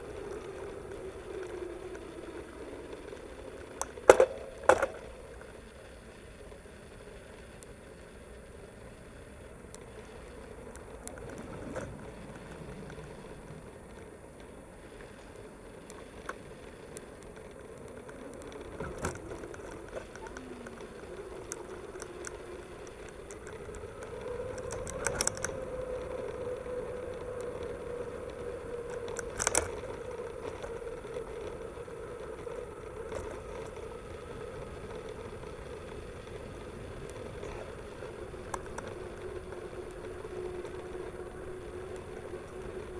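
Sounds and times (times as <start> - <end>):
bike rolling over brick paving: 0.0 - 42.9
faint hum: 0.0 - 42.9.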